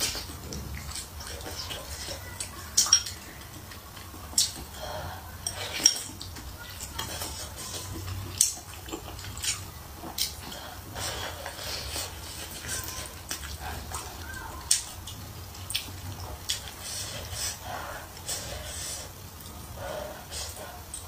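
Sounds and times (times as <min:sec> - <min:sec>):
person eating: 0:00.0 - 0:21.0.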